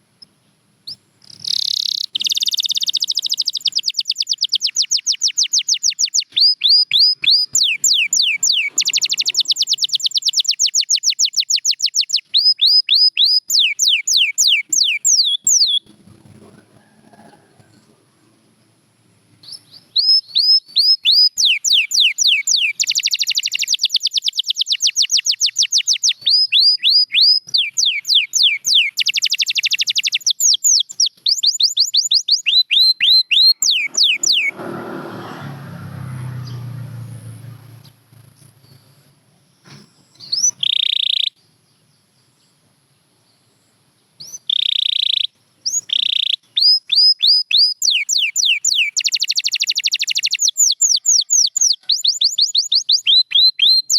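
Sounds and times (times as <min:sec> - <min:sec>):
canary singing: 0:00.2 - 0:18.7, 0:19.4 - 0:39.0, 0:39.7 - 0:41.5, 0:44.2 - 0:53.9.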